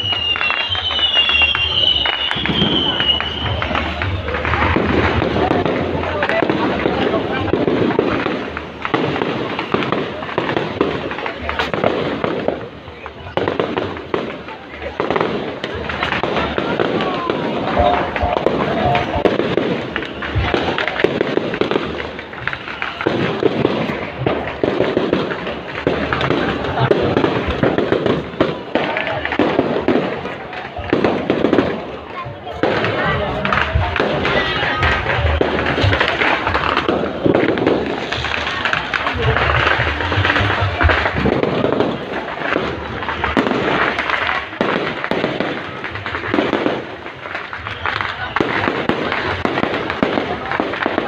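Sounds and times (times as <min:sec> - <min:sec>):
fireworks popping and crackling: 0:00.0 - 0:51.0.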